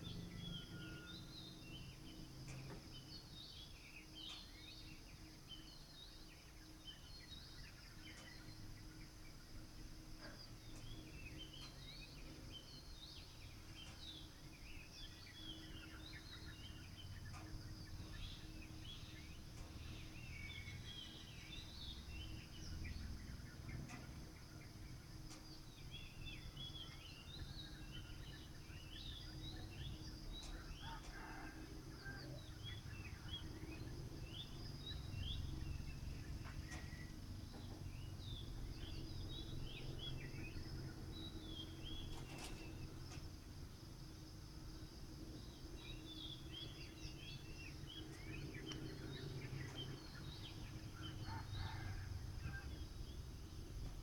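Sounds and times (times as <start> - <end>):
low background rumble: 0.0 - 54.0
small birds chirping: 0.0 - 54.0.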